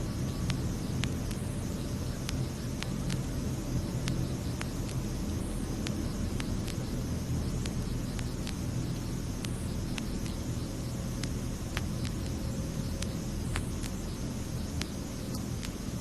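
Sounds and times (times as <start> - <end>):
record surface crackle: 0.0 - 16.0.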